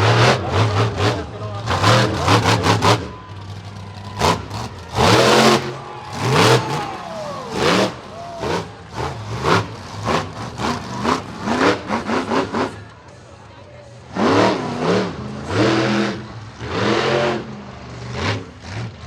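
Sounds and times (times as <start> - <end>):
monster truck engine revving: 0.0 - 13.2, 14.0 - 19.0.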